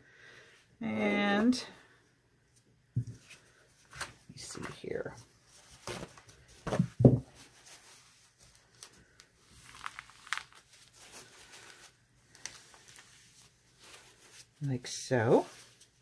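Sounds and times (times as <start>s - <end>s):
paper towel rustling: 3.2s - 16.0s.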